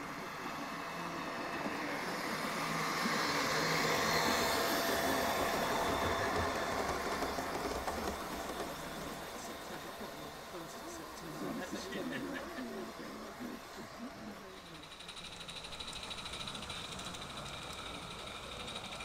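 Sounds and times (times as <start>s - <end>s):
model train running past: 0.0s - 19.0s.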